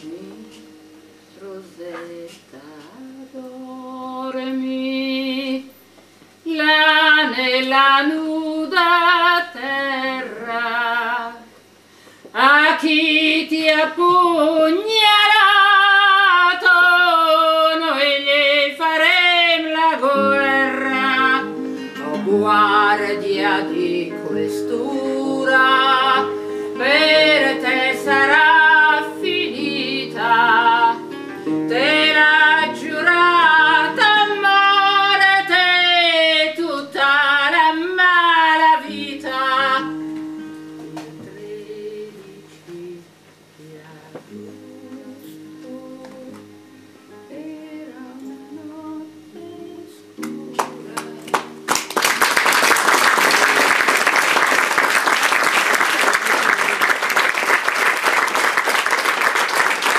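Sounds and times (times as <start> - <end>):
woman singing with vibrato: 0.0 - 5.8, 6.4 - 11.6, 12.3 - 40.1, 40.8 - 51.8
acoustic guitar: 0.0 - 59.9.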